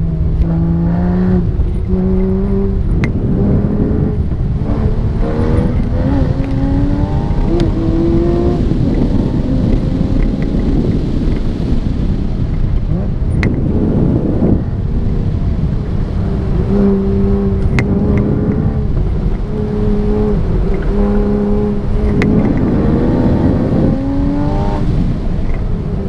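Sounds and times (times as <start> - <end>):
car engine revving: 0.0 - 26.0
road and tyre noise: 0.0 - 26.0.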